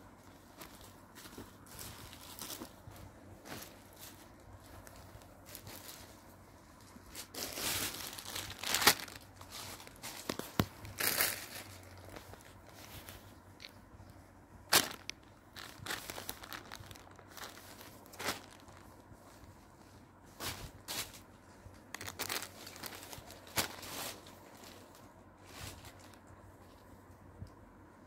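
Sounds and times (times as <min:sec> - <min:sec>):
fabric rustling and crinkling: 0:00.0 - 0:28.0.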